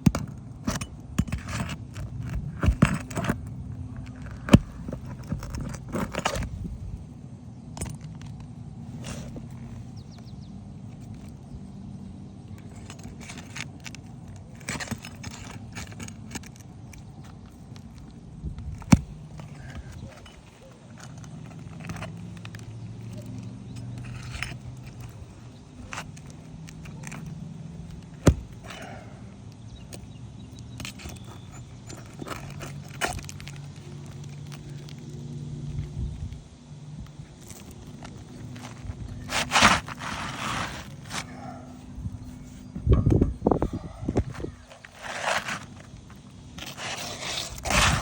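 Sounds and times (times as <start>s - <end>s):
tools scraping shingles: 0.0s - 6.8s, 12.5s - 35.9s, 37.1s - 48.0s.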